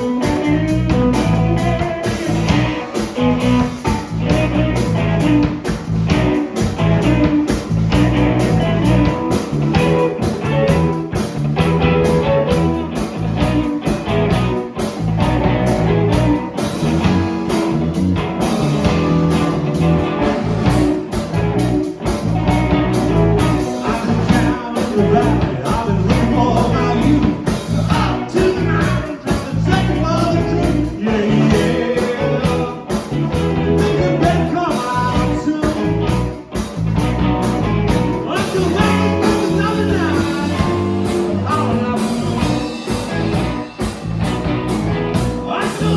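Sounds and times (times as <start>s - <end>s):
blues rock band playing: 0.0s - 45.9s.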